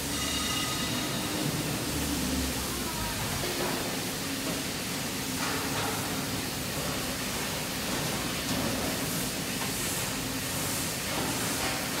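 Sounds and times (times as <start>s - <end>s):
factory hall hiss: 0.0s - 12.0s.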